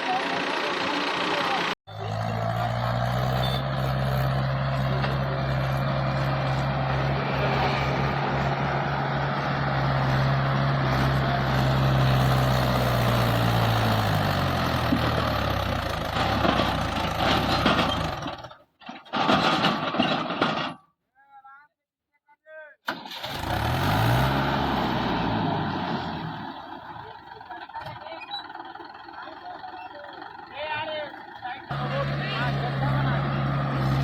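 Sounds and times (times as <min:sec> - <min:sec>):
heavy vehicle engine running: 0:00.0 - 0:18.6, 0:23.3 - 0:34.0.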